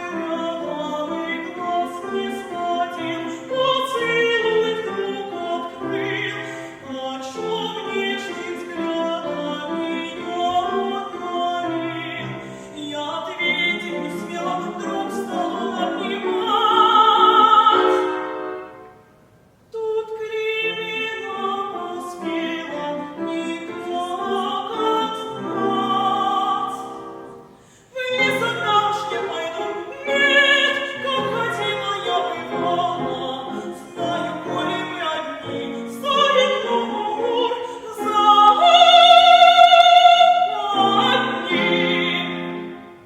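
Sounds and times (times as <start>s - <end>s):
woman singing opera: 0.0s - 18.4s, 19.7s - 43.0s.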